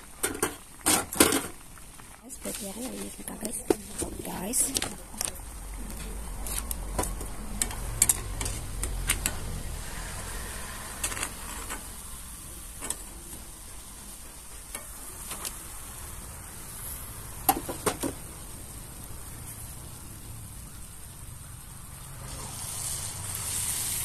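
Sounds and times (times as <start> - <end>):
batter sizzling in hot oil: 0.0 - 24.0.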